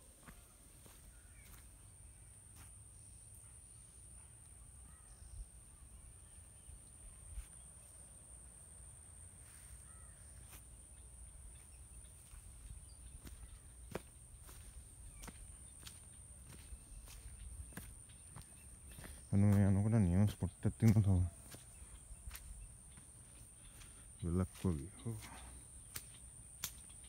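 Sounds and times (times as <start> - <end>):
faint bird calls: 0.0 - 8.0, 9.4 - 27.0.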